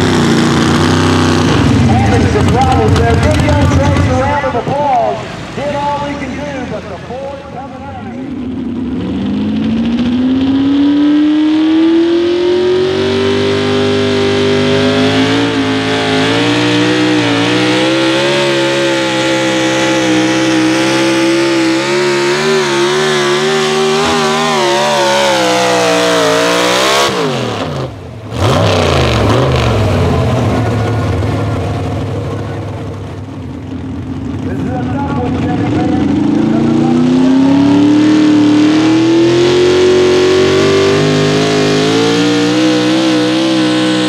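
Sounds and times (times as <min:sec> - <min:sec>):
pulling truck engine at full throttle: 0:00.0 - 0:44.0
second pulling truck engine: 0:00.0 - 0:44.0.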